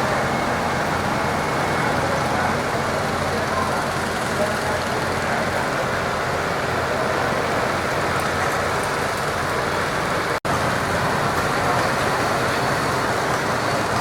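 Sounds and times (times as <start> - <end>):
tractor engine running under load: 0.0 - 14.0.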